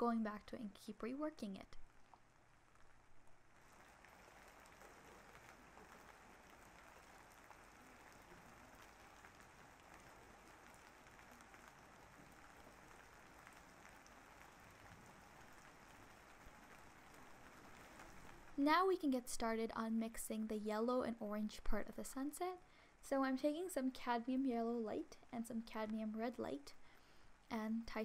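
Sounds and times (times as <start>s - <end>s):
faint steady rain: 0.0s - 28.0s.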